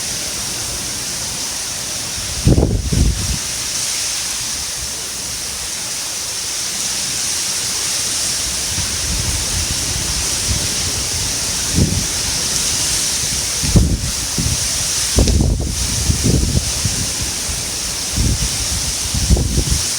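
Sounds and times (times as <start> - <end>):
wind rumble on microphone: 0.0 - 5.8, 8.1 - 19.9
rain falling: 0.0 - 19.9.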